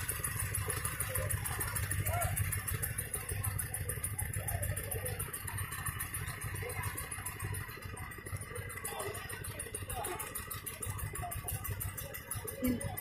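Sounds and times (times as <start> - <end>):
faint background voices: 0.0 - 13.0
small engine running: 0.0 - 13.0.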